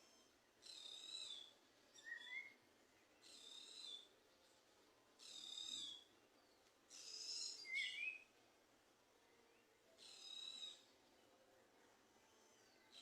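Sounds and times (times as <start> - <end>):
songbird singing: 0.0 - 8.4, 9.2 - 13.0.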